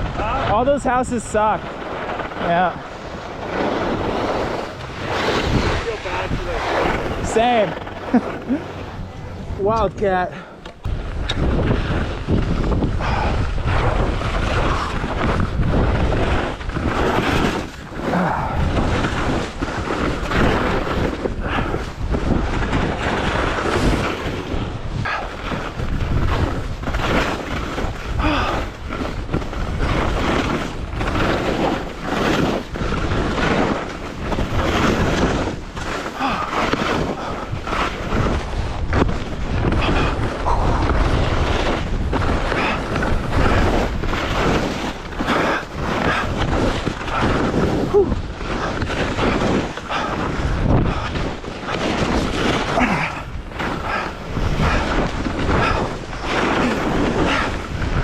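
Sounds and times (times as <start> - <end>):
skis scraping on snow: 0.0 - 58.0
wind on microphone: 0.0 - 58.0.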